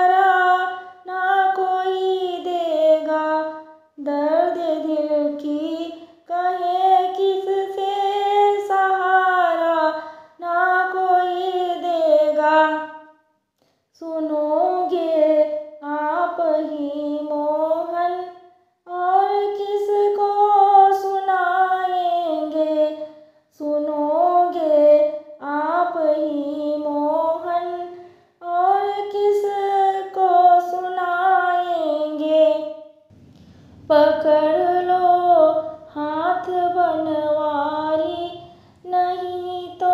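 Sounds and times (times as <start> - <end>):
woman singing unaccompanied: 0.0 - 13.0, 14.0 - 18.3, 18.9 - 32.8, 33.8 - 39.9.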